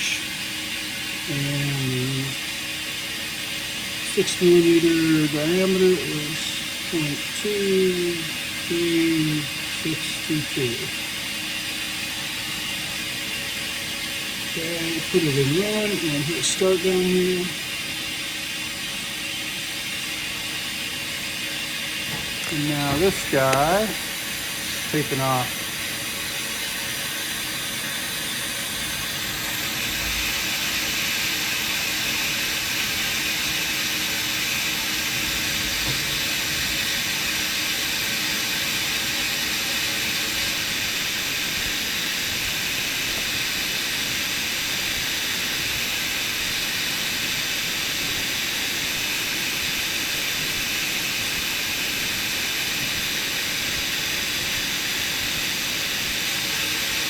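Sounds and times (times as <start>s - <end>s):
machine hiss: 0.0s - 57.0s.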